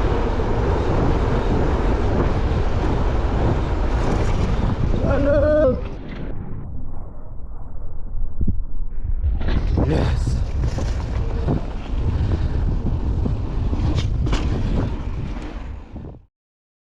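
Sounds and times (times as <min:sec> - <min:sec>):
wind buffeting microphone: 0:00.0 - 0:07.0, 0:08.2 - 0:16.2
loud low rumble: 0:00.0 - 0:16.2.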